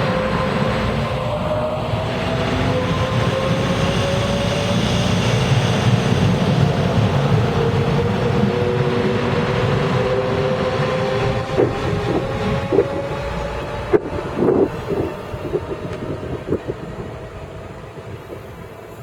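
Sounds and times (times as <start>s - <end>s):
electric train running: 0.0s - 19.0s.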